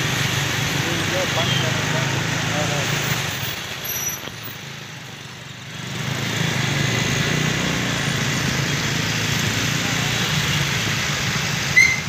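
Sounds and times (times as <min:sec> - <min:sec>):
motorbike engines running: 0:00.0 - 0:12.0
traffic noise: 0:00.0 - 0:12.0.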